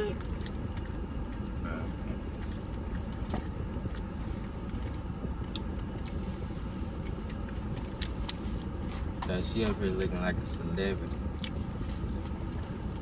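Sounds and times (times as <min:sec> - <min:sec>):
car cabin engine rumble: 0:00.0 - 0:13.0.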